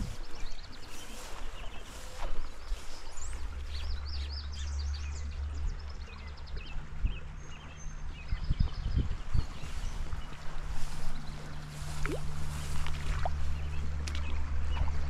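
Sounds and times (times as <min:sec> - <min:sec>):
songbirds chirping and singing: 0:00.0 - 0:15.0
low rumble: 0:02.4 - 0:15.0.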